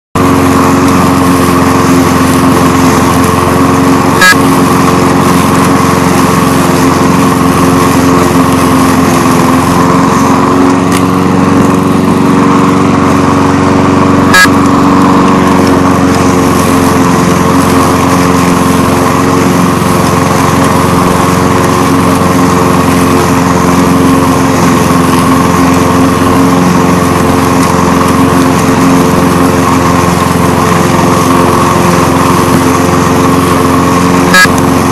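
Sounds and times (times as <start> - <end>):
lawn mower engine running: 0.2 - 34.9.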